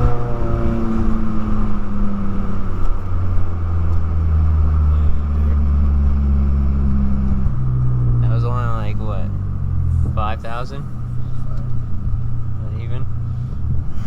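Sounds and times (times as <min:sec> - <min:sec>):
car engine revving loud drone: 0:00.0 - 0:14.0.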